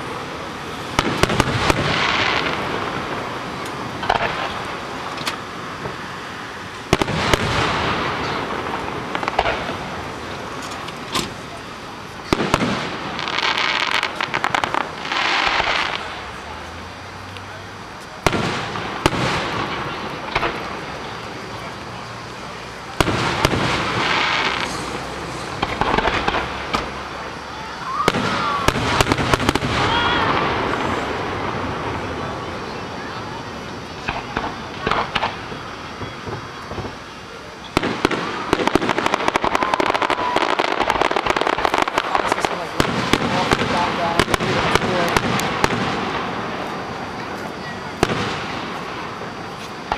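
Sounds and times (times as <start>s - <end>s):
fireworks bangs: 0.0s - 49.9s
fireworks crackling: 0.0s - 49.9s.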